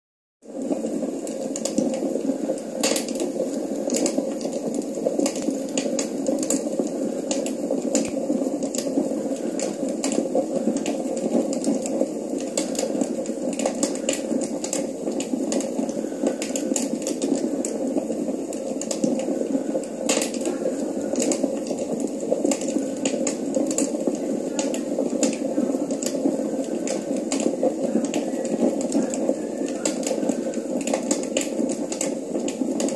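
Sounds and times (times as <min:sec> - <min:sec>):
fireplace crackling through speakers: 0:00.4 - 0:32.9.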